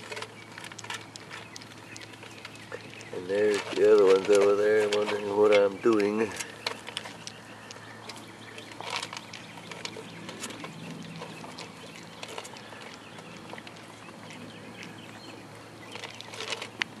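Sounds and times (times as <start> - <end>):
puppies crunching dry kibble: 0.0 - 17.0.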